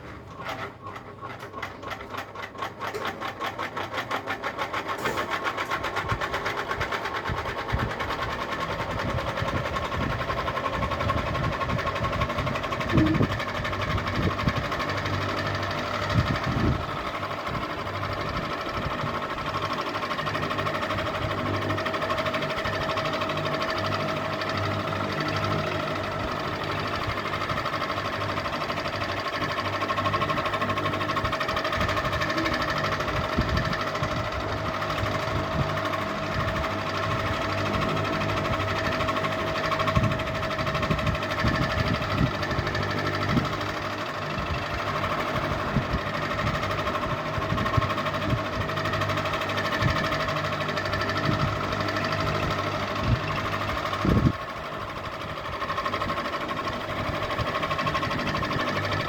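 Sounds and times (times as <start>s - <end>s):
ceiling fan whining: 0.0s - 59.0s
fan knocks and rattles: 0.0s - 59.0s.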